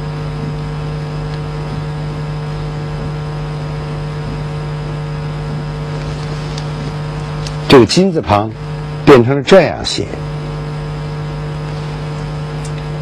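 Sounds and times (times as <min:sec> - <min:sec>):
electrical hum with hiss: 0:00.0 - 0:13.0.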